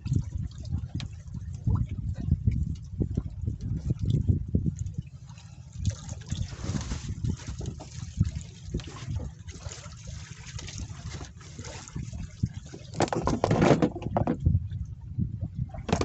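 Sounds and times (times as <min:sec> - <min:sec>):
water splashing against boat hull: 0:00.0 - 0:16.0
wind rumbling on microphone: 0:00.0 - 0:16.0.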